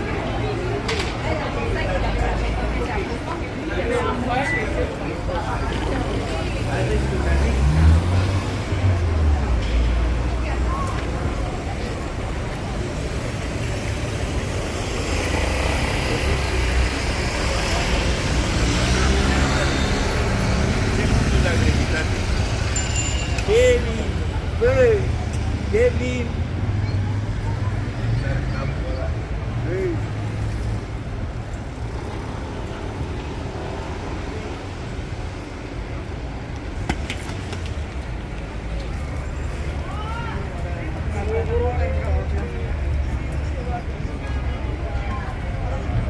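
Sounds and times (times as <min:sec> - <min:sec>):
vehicle engine rumble: 0:00.0 - 0:46.0.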